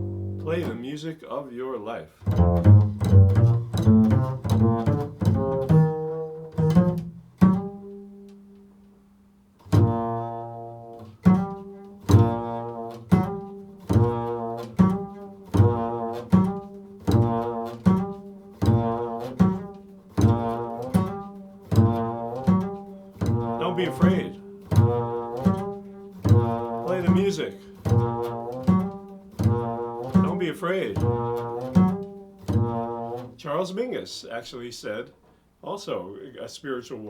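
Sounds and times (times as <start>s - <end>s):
double bass plucked notes: 0.0s - 0.9s, 2.2s - 8.8s, 9.7s - 33.6s.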